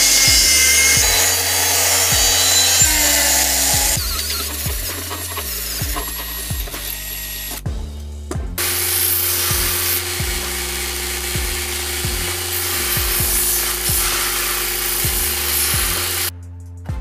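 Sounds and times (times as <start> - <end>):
belt grinder motor: 0.0 - 7.6, 8.6 - 16.3
metal being ground: 0.0 - 7.7, 8.6 - 16.3.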